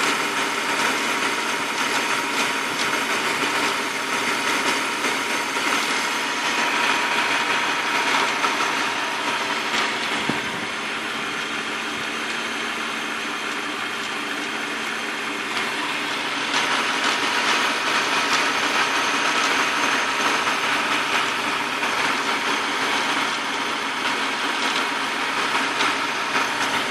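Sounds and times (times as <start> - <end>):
car engine idling: 0.0 - 26.9
rattle from engine: 0.0 - 26.9.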